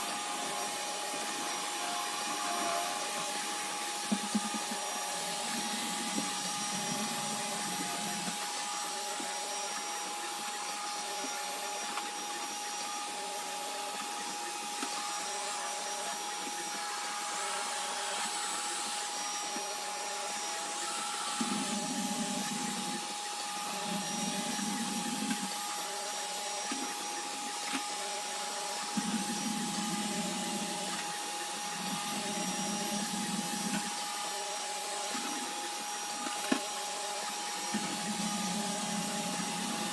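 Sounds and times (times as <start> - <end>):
robot vacuum running: 0.0 - 39.9.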